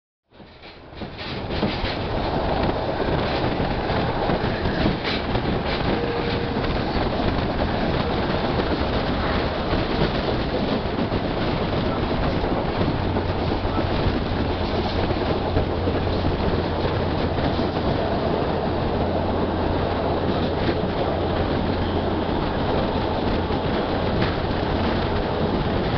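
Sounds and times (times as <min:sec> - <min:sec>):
train wheels on rails: 0:00.3 - 0:25.9.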